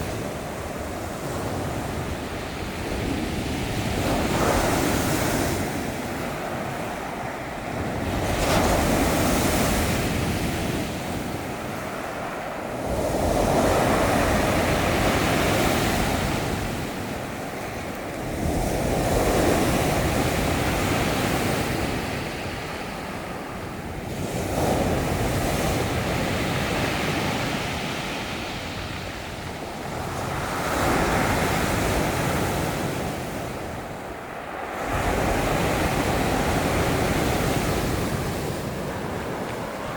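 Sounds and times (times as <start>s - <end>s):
waves breaking ashore: 0.0s - 39.9s
wind buffeting microphone: 0.0s - 39.9s.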